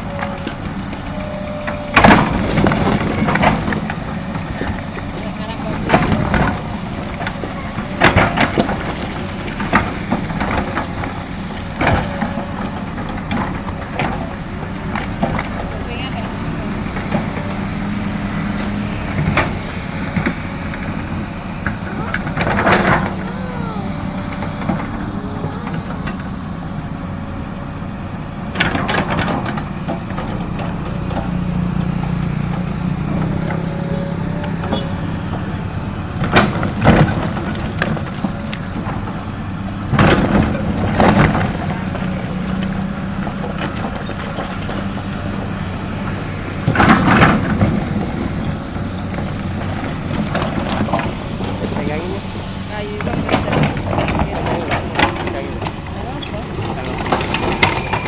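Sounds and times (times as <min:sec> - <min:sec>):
excavator diesel engine running: 0:00.0 - 0:58.0
short rushes of engine noise: 0:00.0 - 0:58.0.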